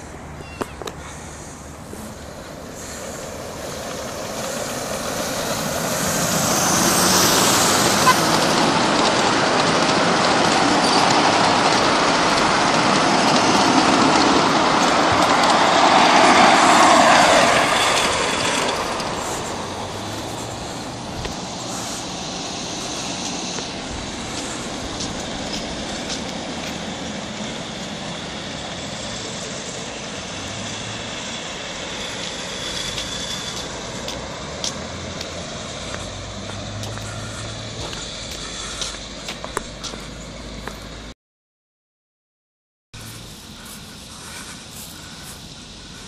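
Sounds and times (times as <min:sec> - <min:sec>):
miniature train wheels rumbling: 0:00.0 - 0:41.1, 0:43.0 - 0:46.0.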